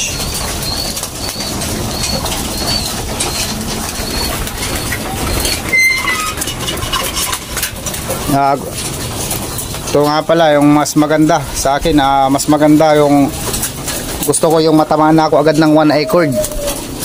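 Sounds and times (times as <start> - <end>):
pigeons bustling: 0.0 - 17.0.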